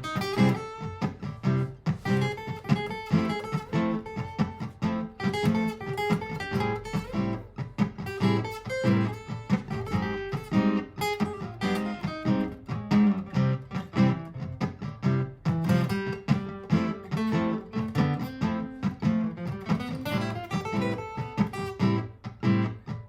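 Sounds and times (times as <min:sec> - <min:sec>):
acoustic guitar strumming and plucking: 0:00.0 - 0:23.0.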